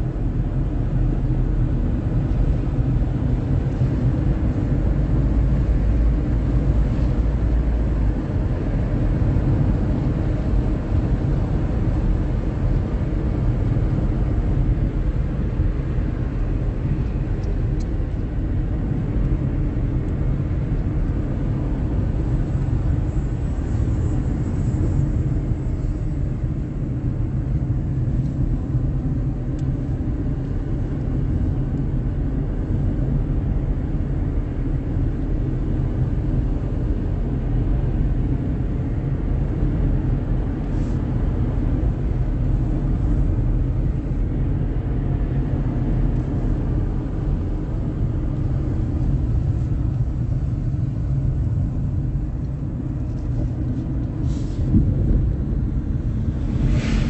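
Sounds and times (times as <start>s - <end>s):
vehicle road and engine rumble: 0.0s - 57.0s.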